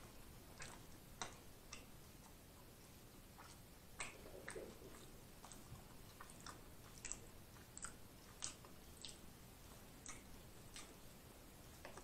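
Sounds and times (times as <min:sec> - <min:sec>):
faint chewing with wet clicks: 0:00.0 - 0:12.0.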